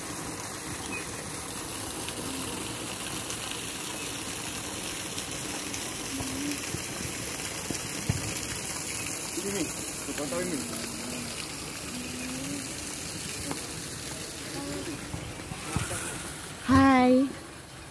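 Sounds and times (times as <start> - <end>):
rushing water: 0.0 - 17.9.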